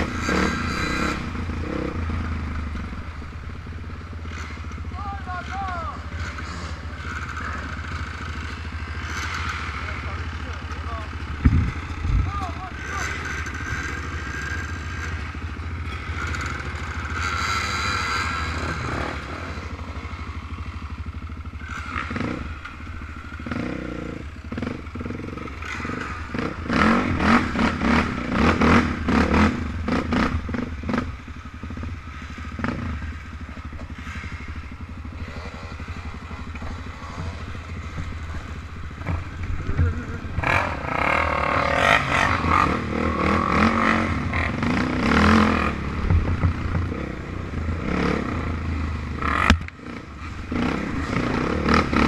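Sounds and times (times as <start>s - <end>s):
off-road motorcycle engines running: 0.0s - 52.0s.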